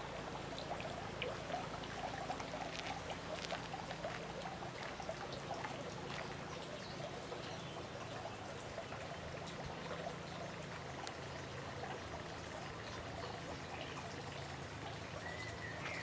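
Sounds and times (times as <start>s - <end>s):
waterfall splashing into pond: 0.0s - 16.0s.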